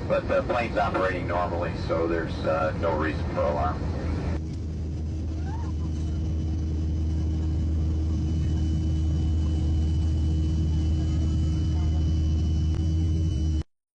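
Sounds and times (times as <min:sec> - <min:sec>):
engines and airflow rumble: 0:00.0 - 0:13.7
faint high whine: 0:00.0 - 0:13.7
steady hum: 0:00.0 - 0:13.7.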